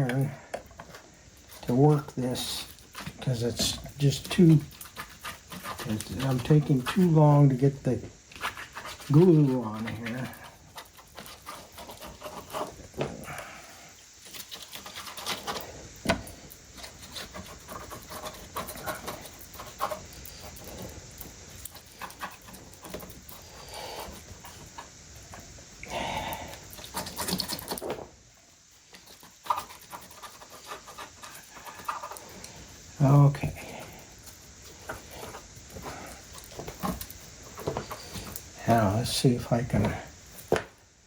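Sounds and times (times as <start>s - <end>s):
glue brush scratchy strokes: 0.8s - 13.0s, 13.9s - 25.0s, 26.6s - 27.9s, 28.7s - 38.8s.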